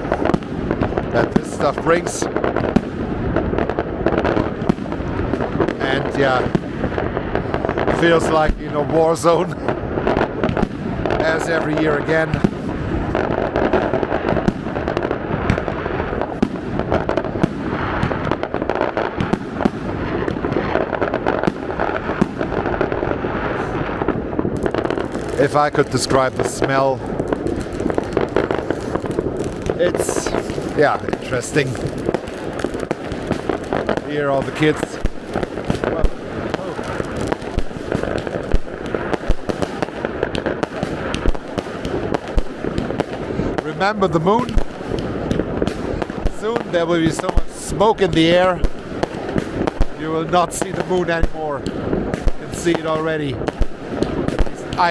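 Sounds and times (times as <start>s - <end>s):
fireworks crackling and banging: 0.0s - 54.9s.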